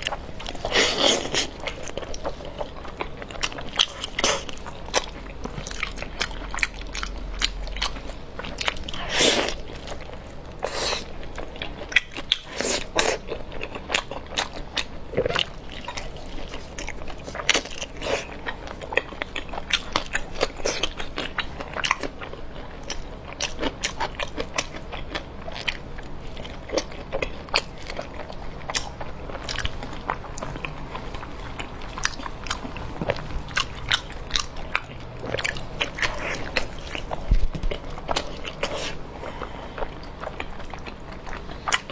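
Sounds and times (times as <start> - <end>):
biting and chewing: 0.0 - 41.9.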